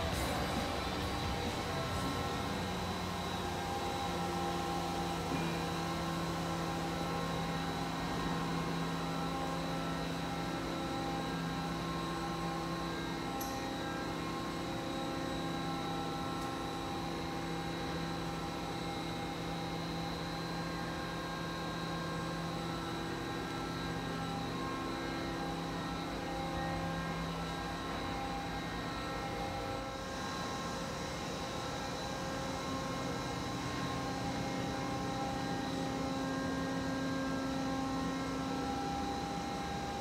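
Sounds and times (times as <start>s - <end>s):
machine hum with fixed tones: 0.0s - 40.0s.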